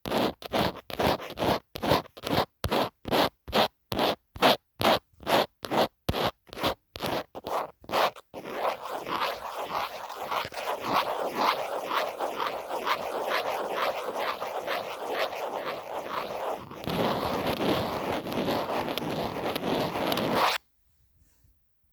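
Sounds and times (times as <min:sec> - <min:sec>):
scratching on phone case: 0:00.0 - 0:20.6.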